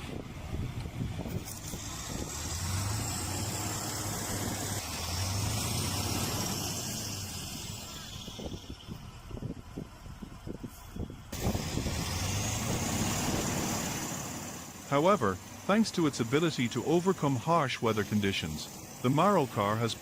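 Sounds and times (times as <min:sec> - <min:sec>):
truck engine droning: 0:00.0 - 0:20.0
hiss of driving through snow: 0:01.3 - 0:08.9, 0:10.6 - 0:20.0.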